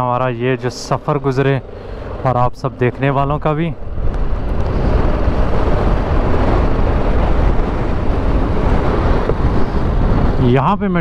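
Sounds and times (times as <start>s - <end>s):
motorcycle engine and tyre noise: 0.0s - 11.0s
wind rushing across microphone: 0.0s - 11.0s.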